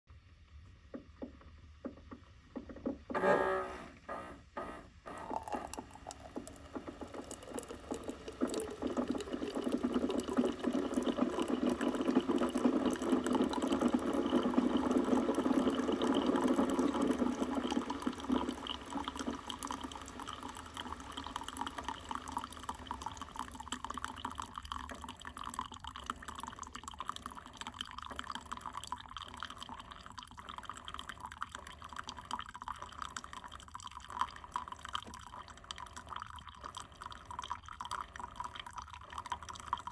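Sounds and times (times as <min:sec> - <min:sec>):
coffee pouring into metal mug: 0:05.1 - 0:39.9
coffee dripping: 0:05.2 - 0:39.9.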